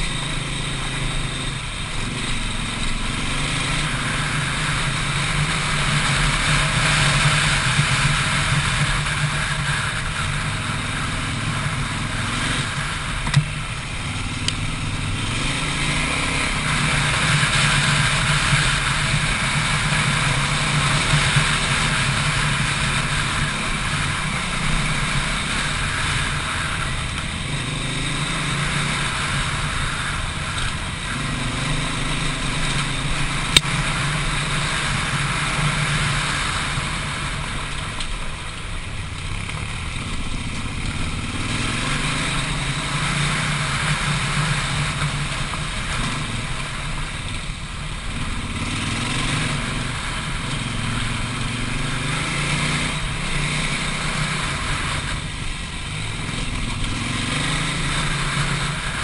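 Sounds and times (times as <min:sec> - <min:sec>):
motorcycle engine revving: 0:00.0 - 0:59.0
rushing noise: 0:00.0 - 0:59.0.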